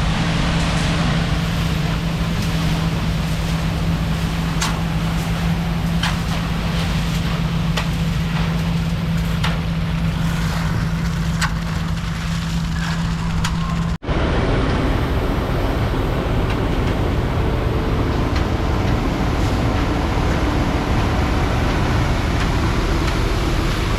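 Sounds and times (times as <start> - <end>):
heavy engine humming: 0.0 - 23.9
rough engine rumble: 0.0 - 23.9.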